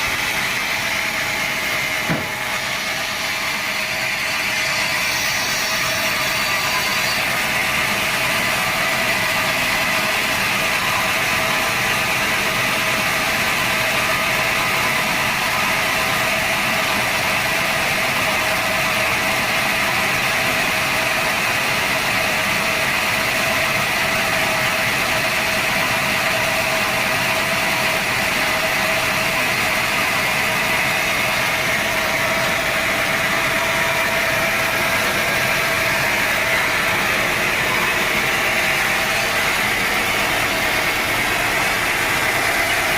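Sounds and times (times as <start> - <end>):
sawmill saw whining: 0.0 - 42.9.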